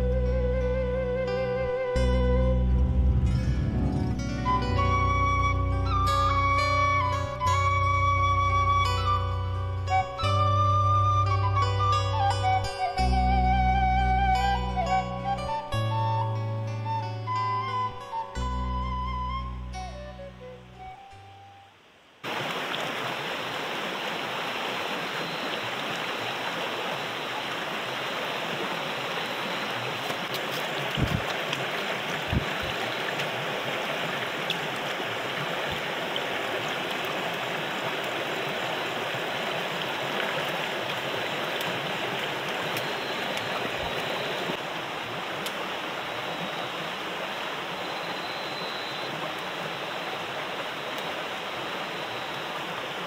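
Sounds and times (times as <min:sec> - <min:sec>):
flowing river water: 0:00.0 - 0:53.0.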